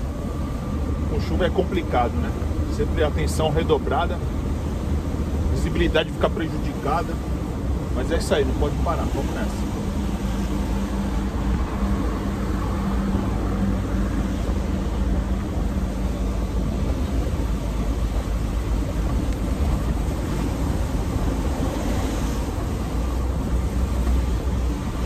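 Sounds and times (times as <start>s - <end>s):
truck engine drone: 0.0s - 25.0s
tyres hissing on wet road: 0.0s - 25.0s.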